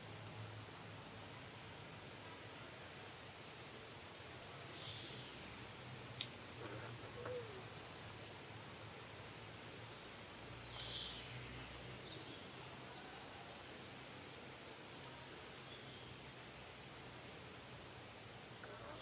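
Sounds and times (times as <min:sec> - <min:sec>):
steady insect hum: 0:00.0 - 0:19.0.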